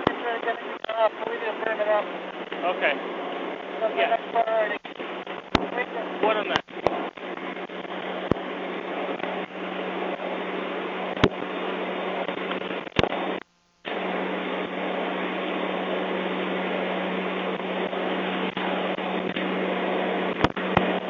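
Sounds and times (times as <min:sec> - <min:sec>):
mechanical drone with low hum: 0:00.0 - 0:21.0.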